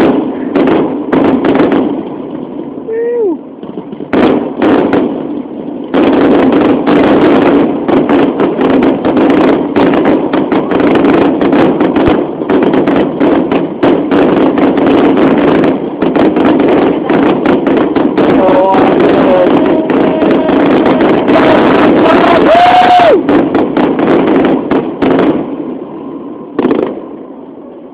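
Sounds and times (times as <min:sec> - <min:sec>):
fireworks bangs and crackles: 0:00.0 - 0:27.9.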